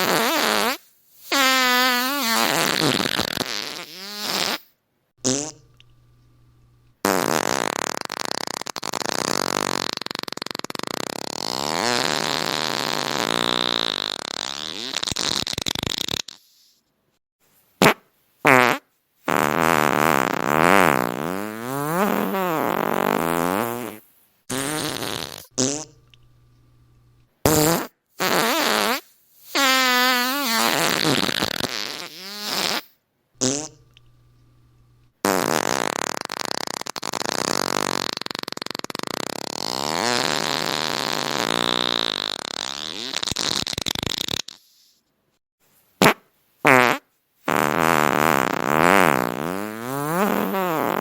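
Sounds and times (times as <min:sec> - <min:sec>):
fart sounds: 0:00.0 - 0:05.8, 0:07.0 - 0:16.8, 0:17.8 - 0:26.1, 0:27.4 - 0:34.0, 0:35.2 - 0:45.0, 0:46.0 - 0:51.0.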